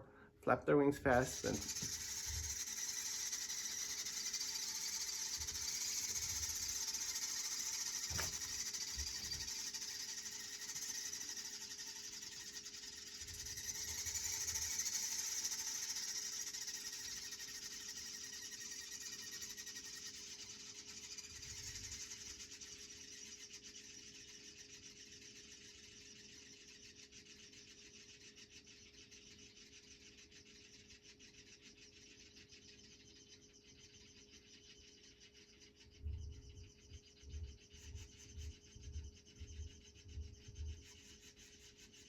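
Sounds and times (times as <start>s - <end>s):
bird chicks begging chatter: 0.0s - 42.0s.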